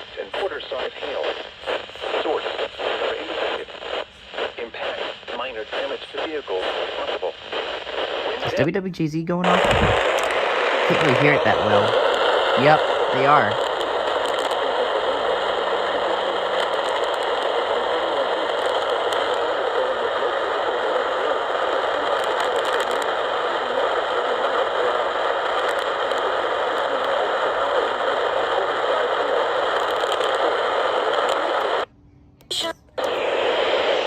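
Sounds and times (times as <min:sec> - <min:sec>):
radio static hiss: 0:00.0 - 0:31.9, 0:32.5 - 0:34.0.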